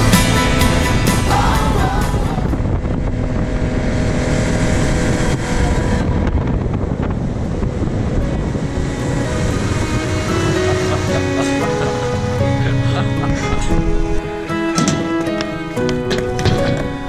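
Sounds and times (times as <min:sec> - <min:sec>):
water rushing from wake: 0:00.0 - 0:14.4
outboard motorboat engine: 0:00.0 - 0:17.0
wind buffeting microphone: 0:00.0 - 0:17.0.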